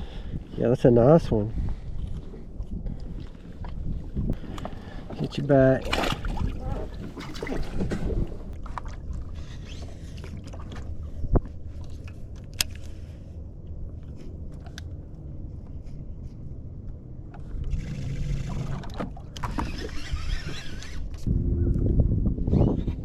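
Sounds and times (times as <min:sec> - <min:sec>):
low steady rumble: 0:00.0 - 0:22.4.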